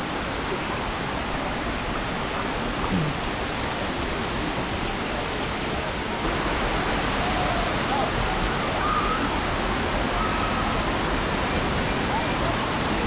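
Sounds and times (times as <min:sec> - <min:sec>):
faint distant voices: 0:00.3 - 0:13.0
waterfall rushing: 0:00.5 - 0:13.0.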